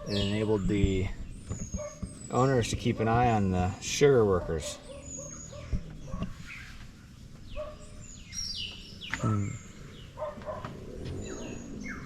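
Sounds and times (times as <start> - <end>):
outdoor background noise: 0.0 - 12.0
wild birds chirping: 0.0 - 12.0.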